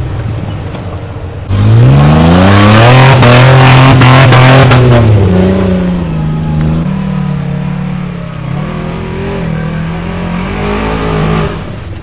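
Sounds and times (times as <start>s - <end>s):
off-road vehicle engine revving: 1.5s - 11.8s.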